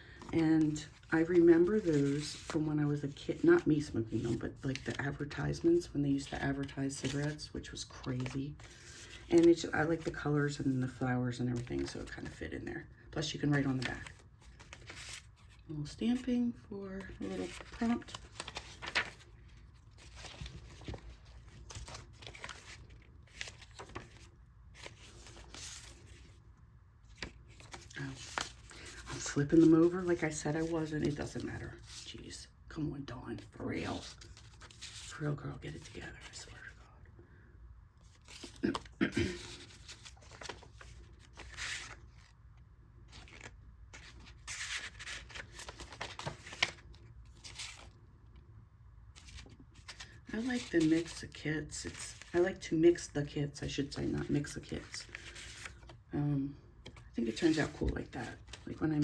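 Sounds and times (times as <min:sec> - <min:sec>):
paper rustling and crinkling: 0:00.0 - 0:26.4, 0:27.0 - 0:32.2, 0:33.4 - 0:36.8, 0:38.0 - 0:48.0, 0:49.2 - 0:56.1, 0:56.8 - 0:59.0.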